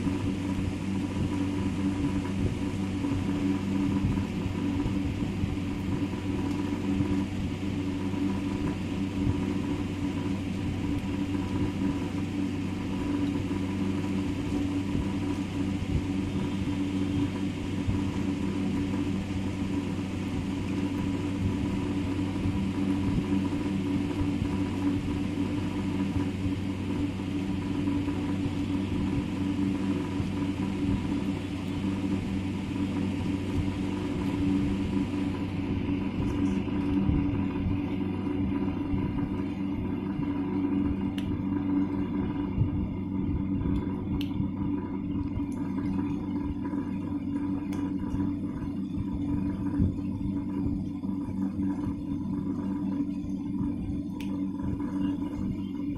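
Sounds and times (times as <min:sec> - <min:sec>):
low electrical hum: 0:00.0 - 0:55.9
rumble: 0:00.0 - 0:55.9.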